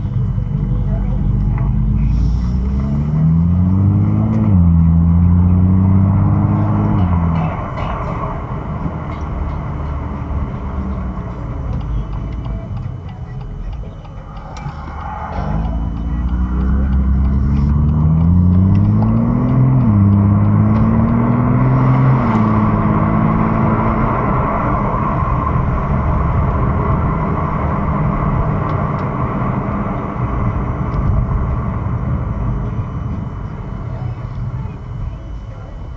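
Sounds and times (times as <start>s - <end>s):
car engine accelerating: 0.0s - 35.9s
road and tyre noise: 0.0s - 35.9s.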